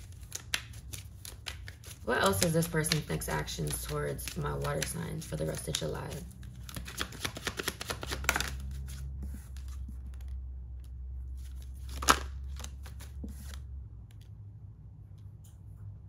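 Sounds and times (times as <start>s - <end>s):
cards being shuffled: 0.0s - 14.3s.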